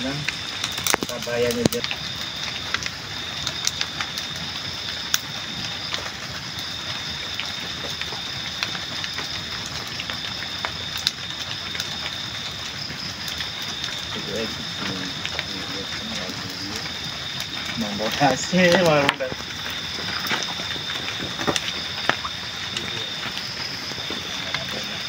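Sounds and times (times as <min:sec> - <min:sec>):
bonfire crackling and popping: 0:00.0 - 0:25.0.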